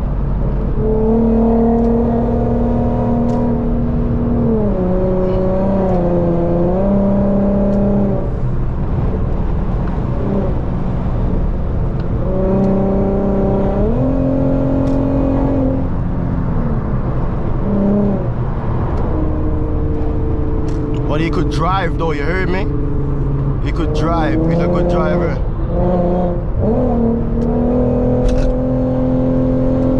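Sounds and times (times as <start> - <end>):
car engine driving: 0.0 - 29.9
road rumble: 0.0 - 29.9.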